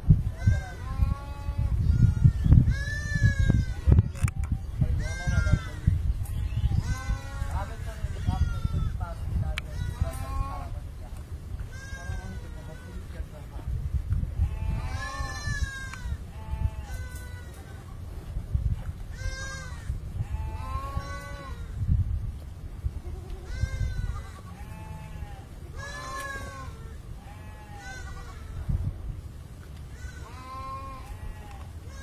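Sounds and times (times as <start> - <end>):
steady low rumble: 0.0 - 32.0
animals bleating: 0.3 - 10.8, 11.6 - 13.3, 14.4 - 18.0, 19.1 - 21.8, 23.0 - 28.7, 29.9 - 32.0.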